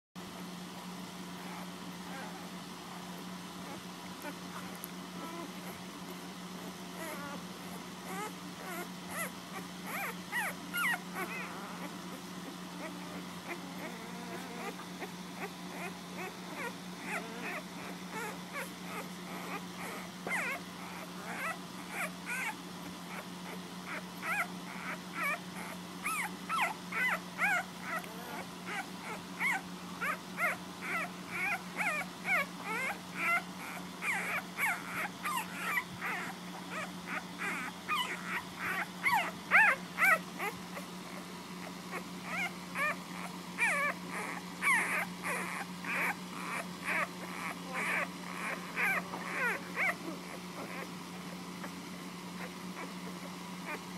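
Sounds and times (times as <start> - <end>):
puppies squeaking and whimpering: 1.4 - 2.5, 3.6 - 5.9, 6.6 - 53.9.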